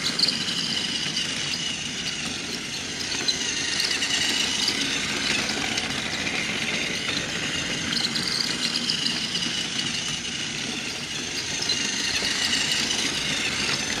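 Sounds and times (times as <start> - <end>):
toy train motors whirring: 0.0 - 14.0
wheels running on plastic track: 0.0 - 14.0.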